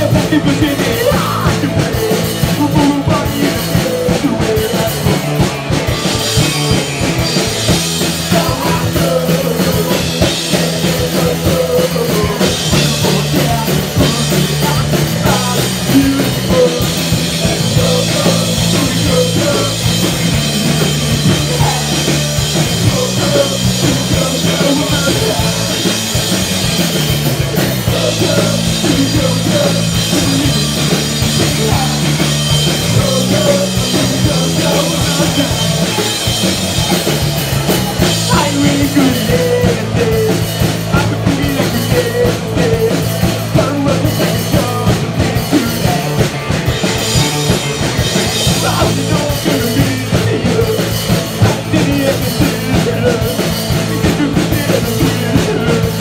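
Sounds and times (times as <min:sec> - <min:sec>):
bass guitar: 0:00.0 - 0:56.0
drum kit: 0:00.0 - 0:56.0
electric guitar: 0:00.0 - 0:56.0
person singing: 0:00.0 - 0:56.0.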